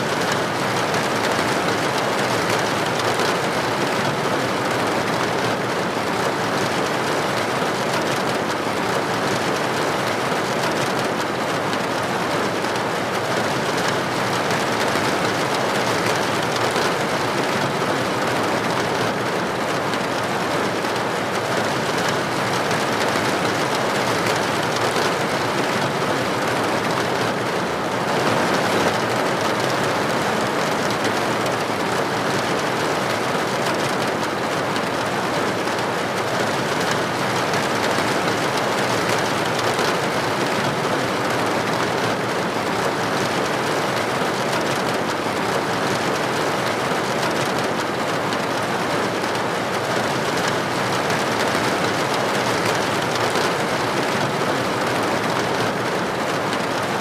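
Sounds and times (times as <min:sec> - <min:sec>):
rain falling: 0:00.1 - 0:57.0.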